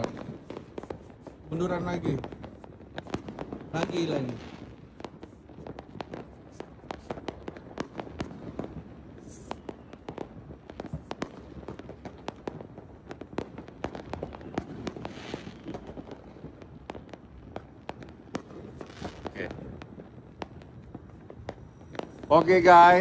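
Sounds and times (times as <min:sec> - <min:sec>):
fireworks popping and banging: 0:00.0 - 0:23.0
low rumble of explosions: 0:00.0 - 0:23.0.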